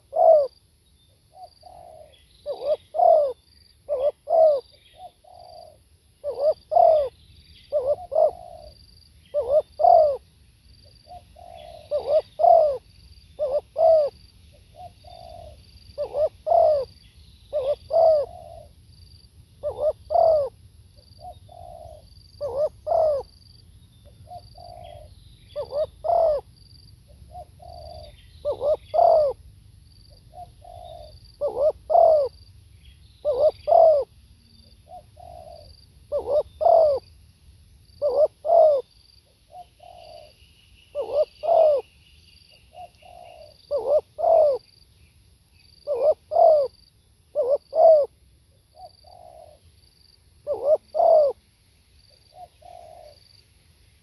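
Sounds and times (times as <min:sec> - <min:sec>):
dove cooing: 0:00.0 - 0:00.6, 0:01.3 - 0:10.2, 0:10.8 - 0:18.8, 0:19.6 - 0:23.3, 0:24.1 - 0:26.5, 0:27.1 - 0:29.5, 0:30.1 - 0:32.4, 0:33.2 - 0:37.1, 0:38.0 - 0:38.9, 0:39.5 - 0:41.9, 0:42.6 - 0:44.7, 0:45.8 - 0:49.7, 0:50.4 - 0:51.4, 0:52.3 - 0:53.3
faint high chirping: 0:00.0 - 0:19.0, 0:19.6 - 0:37.2, 0:37.8 - 0:54.0.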